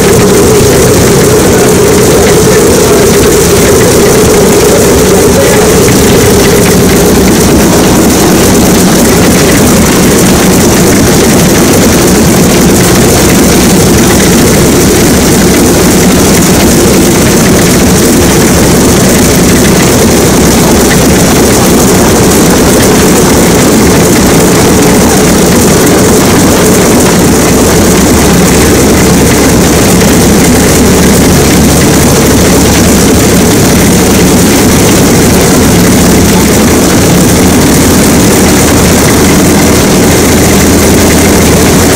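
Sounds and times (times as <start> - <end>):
radial aircraft engine running: 0.0 - 41.9.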